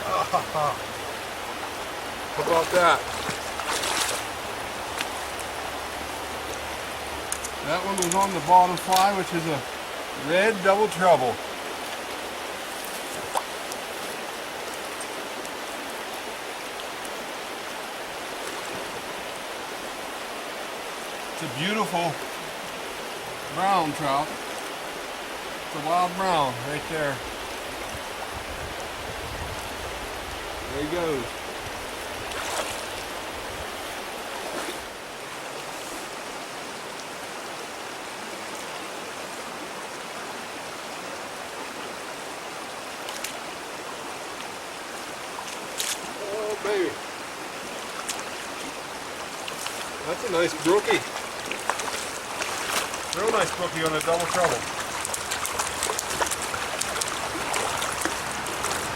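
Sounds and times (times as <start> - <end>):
stream water running over rocks: 0.0 - 58.9.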